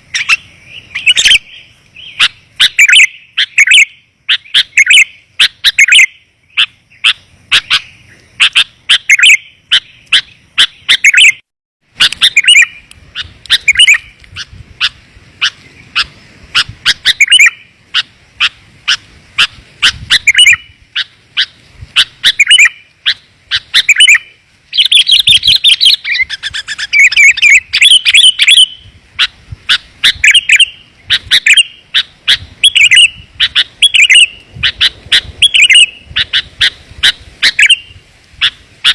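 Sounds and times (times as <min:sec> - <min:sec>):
bird chirping rapidly: 0:00.0 - 0:11.4, 0:12.0 - 0:38.9.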